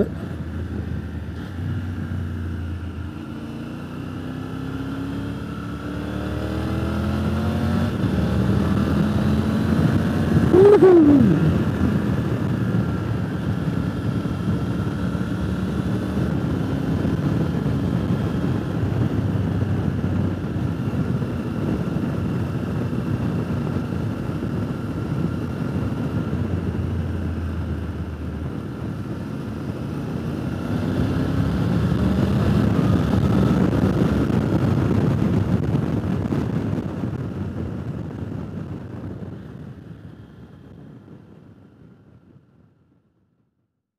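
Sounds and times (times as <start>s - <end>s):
motorcycle engine running: 0.0s - 41.2s
wind noise: 0.0s - 42.6s.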